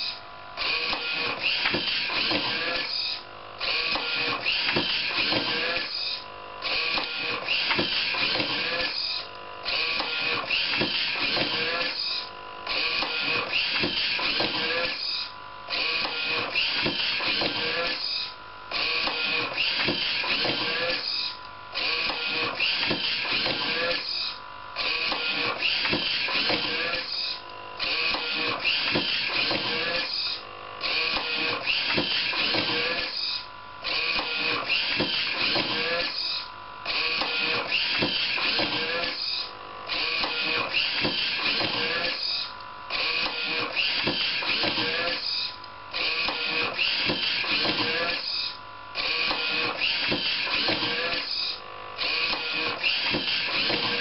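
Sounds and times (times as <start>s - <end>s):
book scanner motors running: 0.0s - 54.0s.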